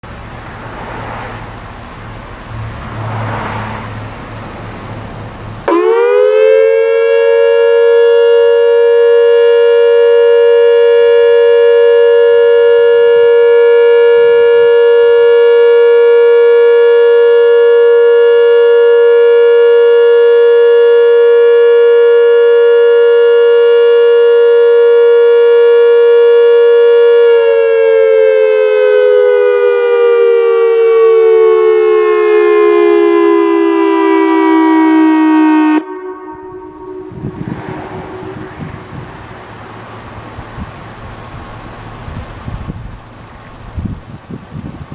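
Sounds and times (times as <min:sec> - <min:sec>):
outdoor warning siren dual-tone: 0:04.7 - 0:43.2.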